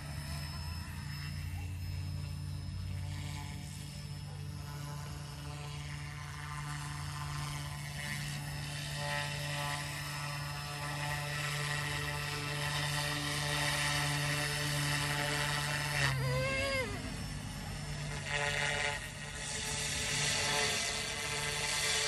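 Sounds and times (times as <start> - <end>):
electric motors whining: 0.0 - 22.0
rotor blades buzzing: 0.0 - 22.0.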